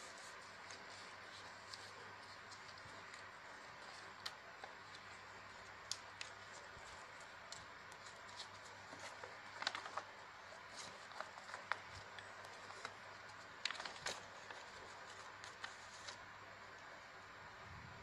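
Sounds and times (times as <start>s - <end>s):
paper rustling and crackling: 0.0s - 16.9s
steady hiss: 0.0s - 18.0s.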